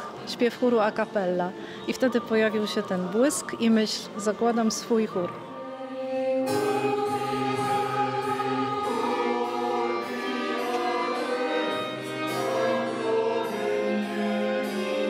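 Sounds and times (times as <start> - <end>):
mixed choir singing: 0.0 - 15.0
violins and cello: 1.2 - 15.0.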